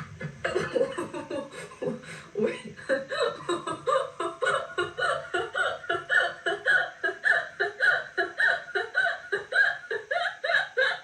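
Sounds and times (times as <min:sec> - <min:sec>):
person laughing hard: 0:00.0 - 0:11.0.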